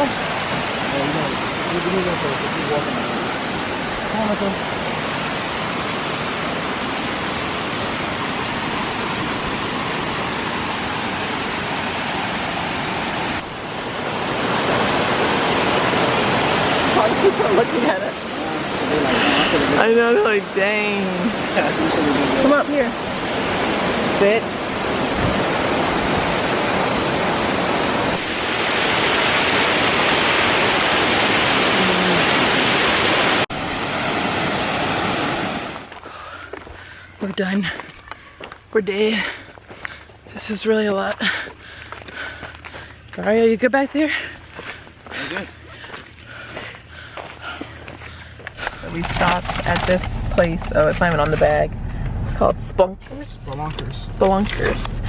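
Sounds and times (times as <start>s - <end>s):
flowing water rushing: 0.0s - 37.9s, 44.0s - 55.0s.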